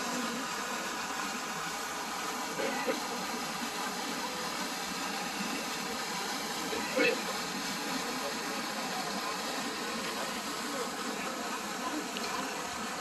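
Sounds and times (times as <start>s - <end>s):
faint voices: 0.0s - 13.0s
fountain water splashing: 0.0s - 13.0s.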